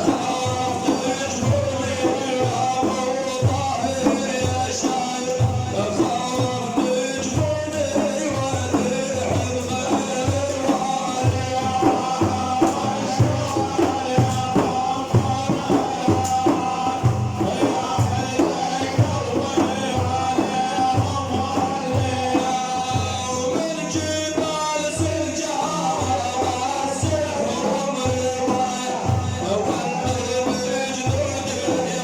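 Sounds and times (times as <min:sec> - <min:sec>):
steady drum beat: 0:00.0 - 0:32.0.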